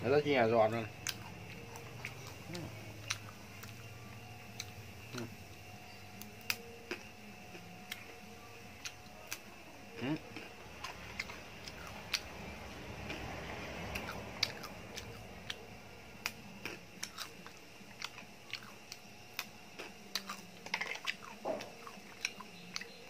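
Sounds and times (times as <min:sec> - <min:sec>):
person chewing crunchy chips: 0:00.7 - 0:03.9, 0:04.5 - 0:05.4, 0:06.2 - 0:08.2, 0:08.8 - 0:12.4, 0:13.0 - 0:15.6, 0:16.2 - 0:23.0.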